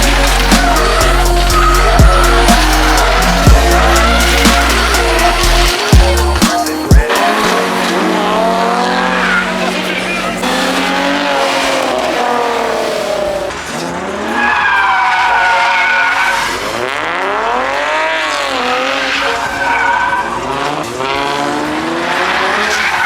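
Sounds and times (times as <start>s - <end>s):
car engine revving hard: 0.0s - 23.0s
tyres skidding and squealing: 0.0s - 23.0s.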